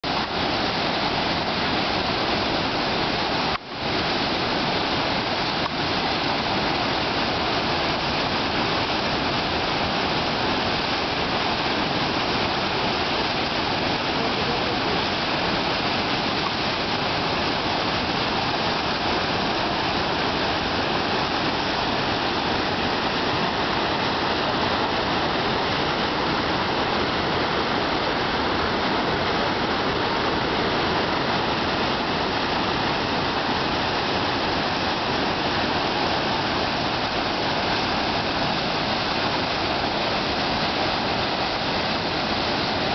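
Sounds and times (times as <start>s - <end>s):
waterfall rushing over rocks: 0.0s - 42.9s.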